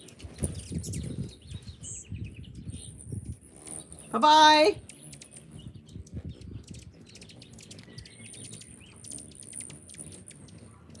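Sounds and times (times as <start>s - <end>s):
hummingbirds chipping: 0.0s - 11.0s.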